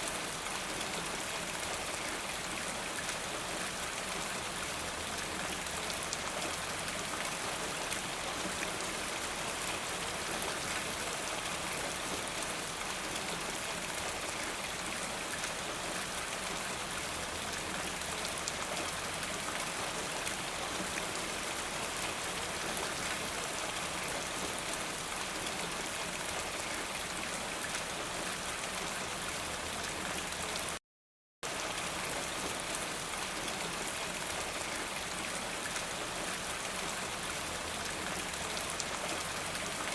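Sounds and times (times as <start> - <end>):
steady rain: 0.0 - 30.8, 31.4 - 39.9.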